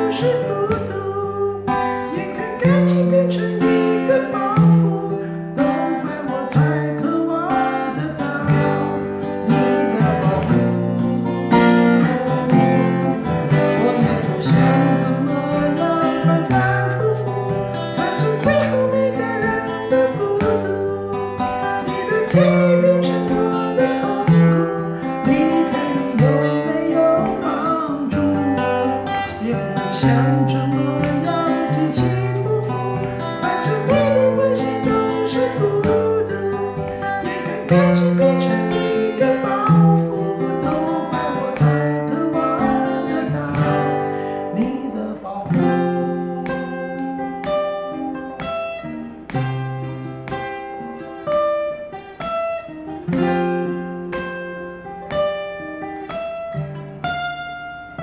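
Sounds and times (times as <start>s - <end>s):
fingerstyle acoustic guitar: 0.0s - 58.0s.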